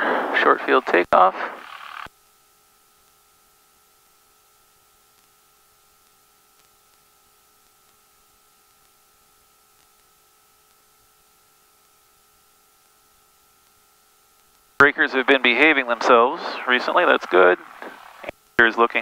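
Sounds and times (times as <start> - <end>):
faint hum tones: 0.0 - 19.0
faint steady hiss: 0.0 - 19.0.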